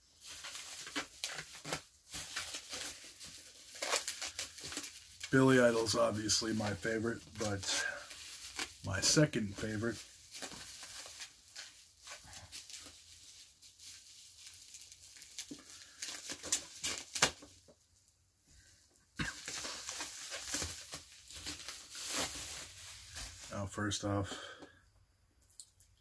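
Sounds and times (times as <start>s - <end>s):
bubble wrap crinkling and crackling: 0.0s - 18.2s, 19.2s - 24.0s.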